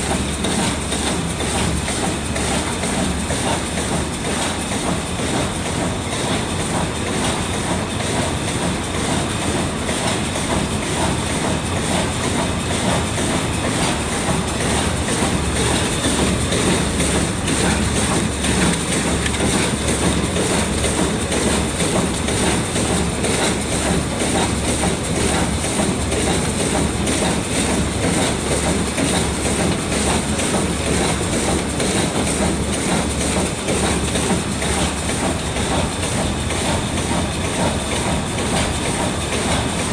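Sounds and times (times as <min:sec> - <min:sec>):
packing machine clatter: 0:00.0 - 0:39.9.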